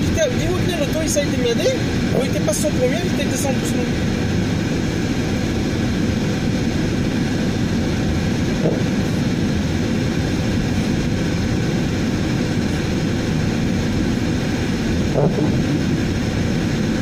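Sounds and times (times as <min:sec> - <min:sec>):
car driving on snowy road: 0:01.5 - 0:17.0.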